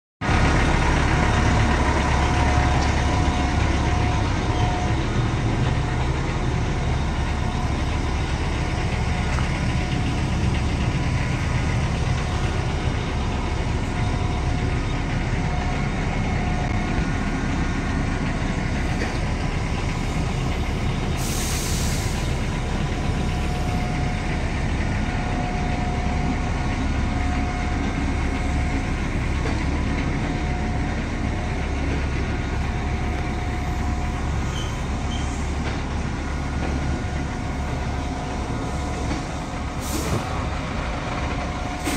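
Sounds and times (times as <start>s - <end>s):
diesel truck engine idling: 0.2s - 41.9s.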